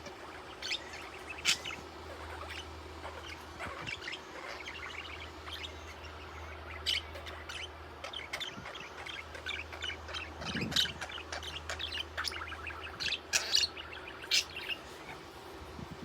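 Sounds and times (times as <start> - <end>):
budgerigar chirping: 0.0 - 15.2.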